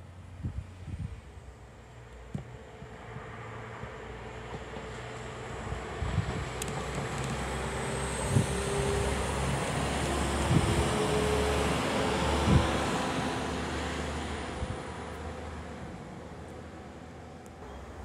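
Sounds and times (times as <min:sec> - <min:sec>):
train passing rumble: 0:00.1 - 0:18.0.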